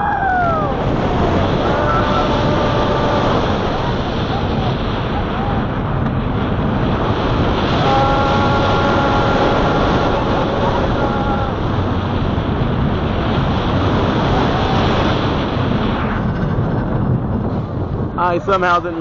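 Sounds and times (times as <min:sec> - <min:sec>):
coaster train rumbling on track: 0:00.0 - 0:19.0
wind rushing on microphone: 0:00.0 - 0:19.0.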